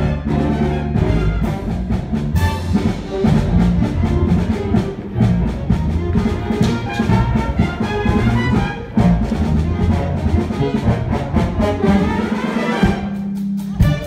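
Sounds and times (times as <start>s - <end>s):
brass orchestral chase music: 0.0s - 14.0s
drums beating: 0.0s - 14.0s.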